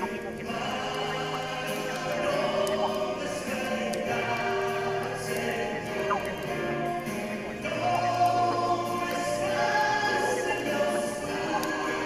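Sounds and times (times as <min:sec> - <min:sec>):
christmas choir singing held chords: 0:00.0 - 0:12.0.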